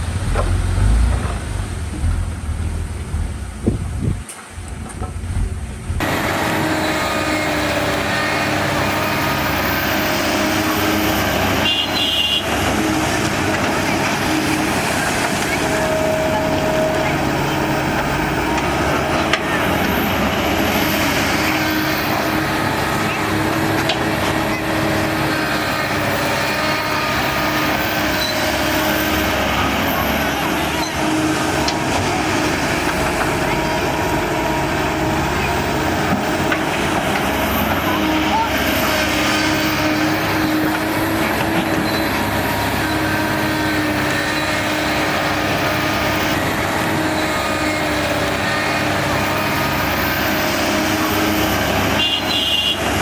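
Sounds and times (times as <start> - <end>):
heavy diesel engine droning: 0.0 - 53.0.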